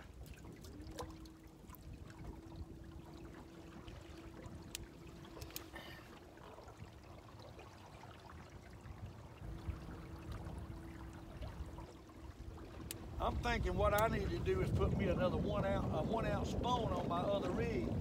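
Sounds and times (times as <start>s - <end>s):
wind buffeting microphone: 0.0s - 7.6s, 8.2s - 18.0s
waves lapping against metal hull: 0.0s - 18.0s.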